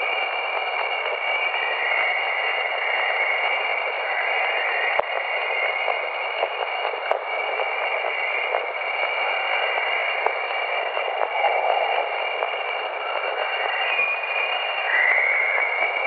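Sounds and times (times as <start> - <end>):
radio-like hiss: 0.0 - 16.0
steady high tones: 0.0 - 16.0.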